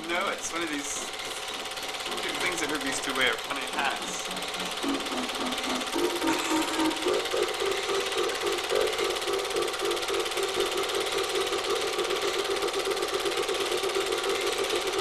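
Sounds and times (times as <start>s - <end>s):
film projector running: 0.0s - 15.0s.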